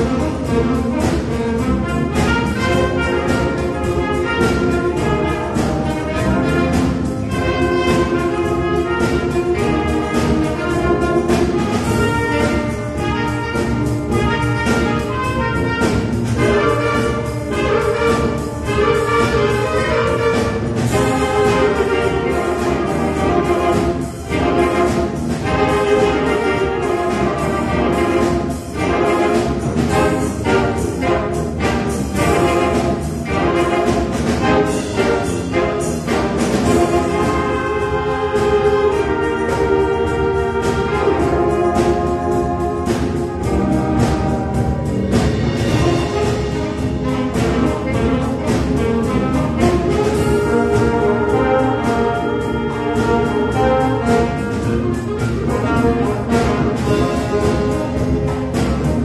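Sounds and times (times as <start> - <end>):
wind band playing: 0.0 - 59.0.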